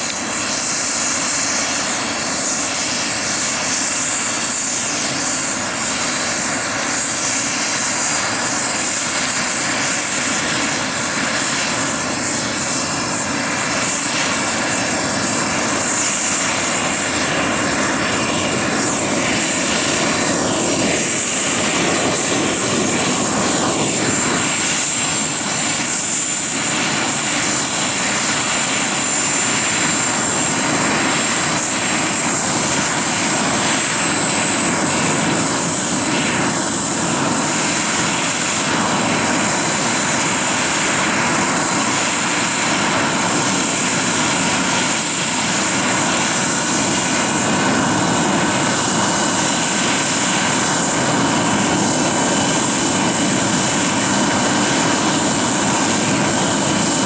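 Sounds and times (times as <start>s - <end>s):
model helicopter rotors whirring: 0.0s - 57.0s.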